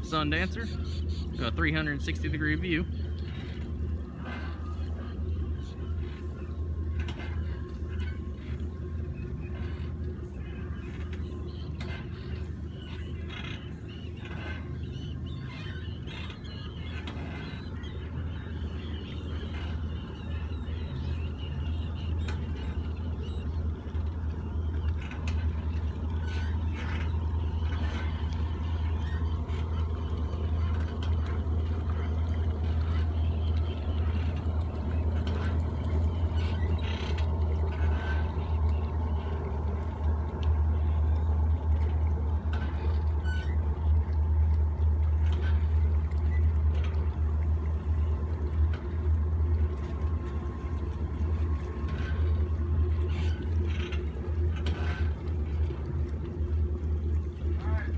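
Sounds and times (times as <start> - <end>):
boat engines idling: 0.0 - 57.9.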